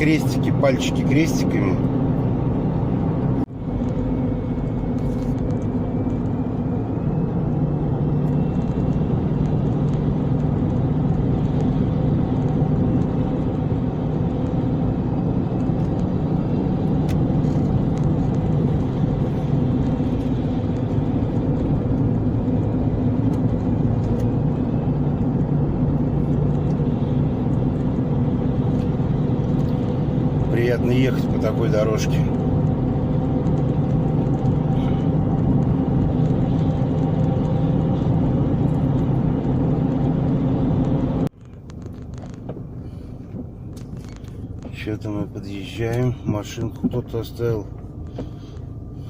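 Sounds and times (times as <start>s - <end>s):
car driving on road: 0.0s - 49.0s.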